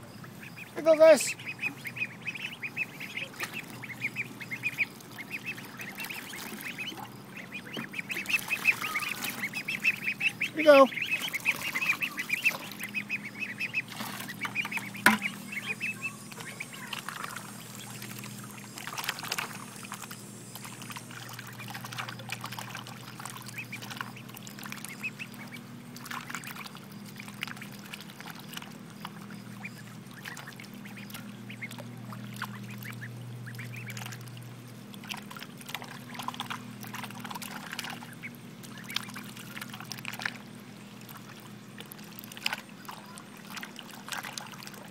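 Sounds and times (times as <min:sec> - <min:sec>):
ducks chattering calls: 0:00.0 - 0:44.9
ducks slurping water: 0:00.0 - 0:44.9
small water splashes: 0:00.2 - 0:44.9.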